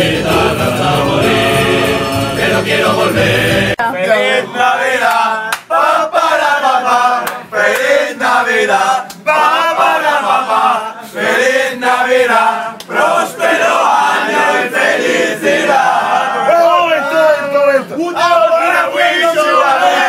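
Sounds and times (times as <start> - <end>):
crowd of young men chanting: 0.0 - 16.6, 18.5 - 20.0.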